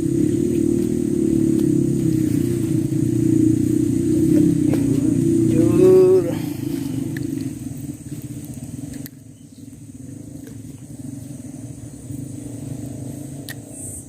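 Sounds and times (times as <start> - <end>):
engine rumbling: 0.0 - 14.0
steady high hiss: 0.0 - 14.0.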